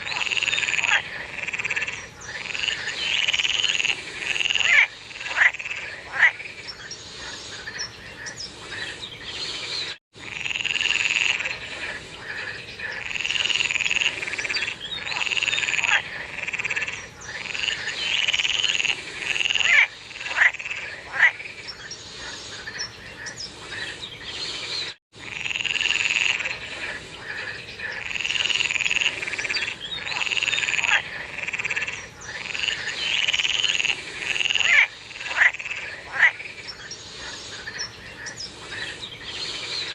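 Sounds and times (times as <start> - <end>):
frogs croaking and trilling: 0.0 - 39.9.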